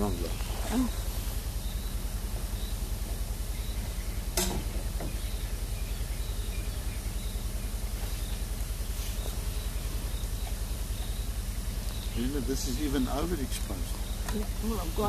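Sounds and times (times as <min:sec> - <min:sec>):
faint insect chirps: 0:00.0 - 0:15.0
low pulsing hum: 0:00.0 - 0:15.0.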